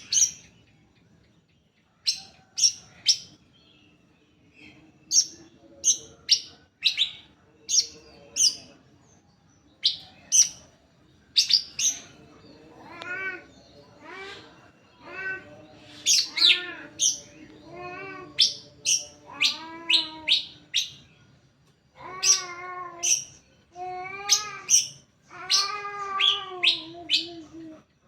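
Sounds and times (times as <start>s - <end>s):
bird singing mewing phrases: 0.0s - 28.0s.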